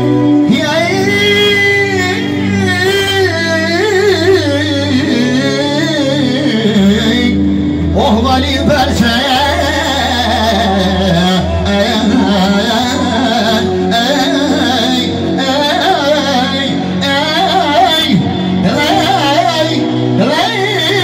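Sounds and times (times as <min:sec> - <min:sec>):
solo voice singing: 0:00.0 - 0:21.0.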